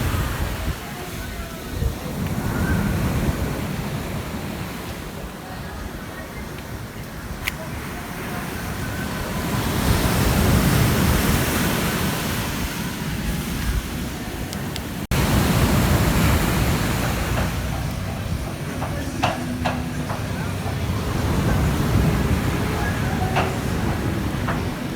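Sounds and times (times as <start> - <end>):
ocean surf breaking on beach: 0.0 - 24.9.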